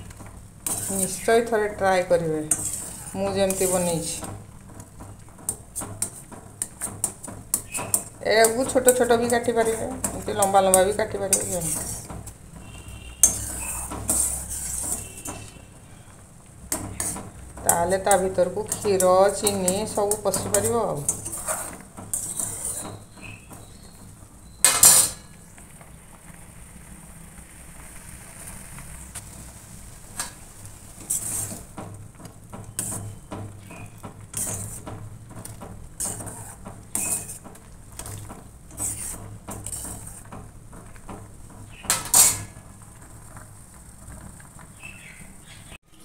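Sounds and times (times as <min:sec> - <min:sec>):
metal ladle scraping saucepan: 0:00.0 - 0:16.1, 0:16.7 - 0:25.4, 0:30.1 - 0:42.8
ladle clanks: 0:00.0 - 0:25.4, 0:31.0 - 0:43.5.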